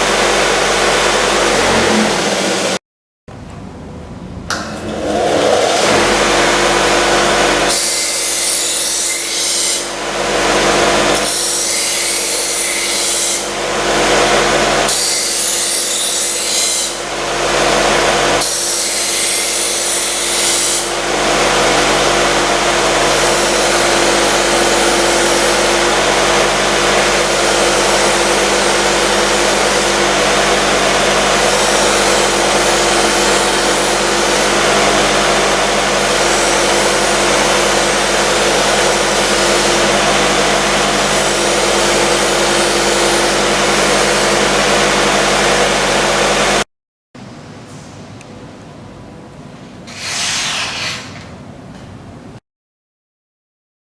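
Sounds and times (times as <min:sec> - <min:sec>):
sharpening machine motor hum: 0:00.0 - 0:02.8, 0:04.8 - 0:46.6.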